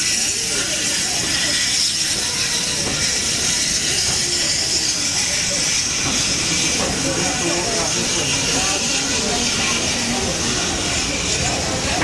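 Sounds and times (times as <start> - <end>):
steam hissing: 0.0 - 12.0
train coaches rumbling past: 0.0 - 12.0.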